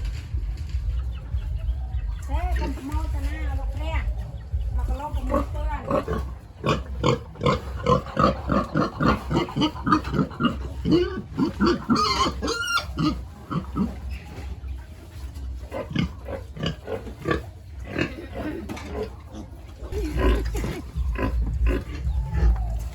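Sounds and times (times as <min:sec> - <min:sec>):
pigs grunting: 0:04.1 - 0:22.9.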